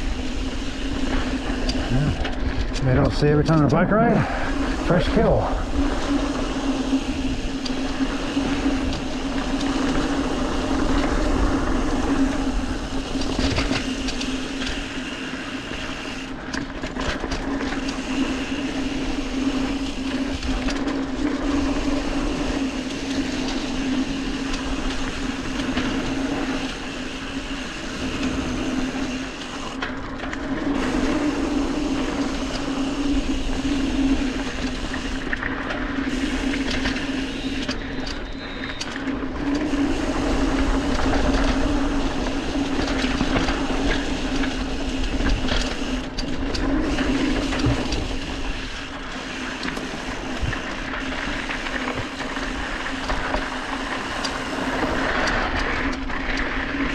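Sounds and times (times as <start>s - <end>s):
bike rattling over bumps: 0.0s - 56.9s
tyres rolling on dirt and leaves: 0.0s - 56.9s.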